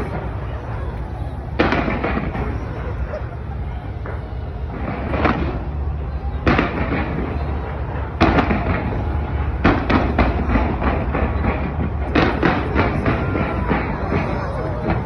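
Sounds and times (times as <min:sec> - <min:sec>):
fireworks banging: 0:00.0 - 0:15.0.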